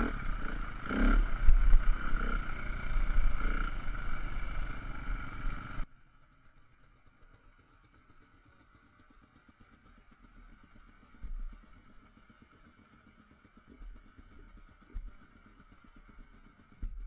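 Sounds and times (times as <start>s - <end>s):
muffled dirt bikes idling: 0.0s - 17.0s.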